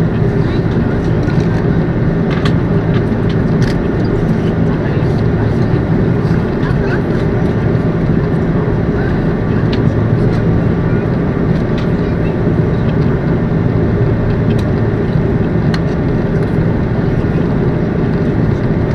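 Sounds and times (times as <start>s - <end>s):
jet engine cabin drone: 0.0s - 18.9s.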